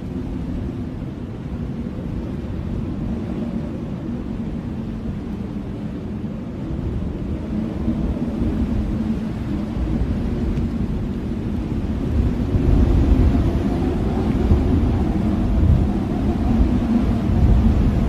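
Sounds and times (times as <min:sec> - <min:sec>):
blizzard wind howling: 0:00.0 - 0:18.0.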